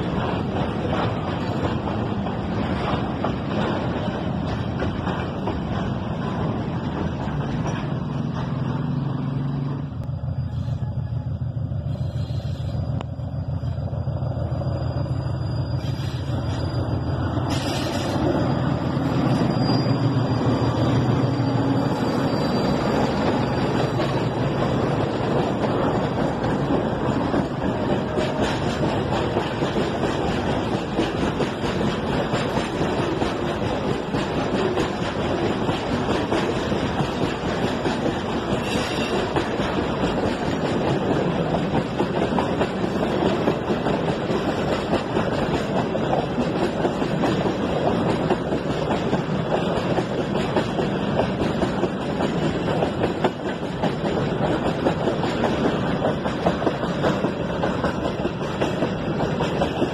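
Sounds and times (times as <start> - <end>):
diesel locomotive engine humming: 0.0 - 59.9
train wheels rumbling on rails: 0.0 - 59.9.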